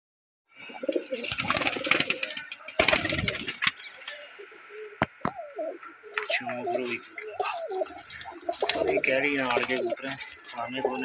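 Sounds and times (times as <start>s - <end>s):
pigeons cooing: 0.6s - 11.0s.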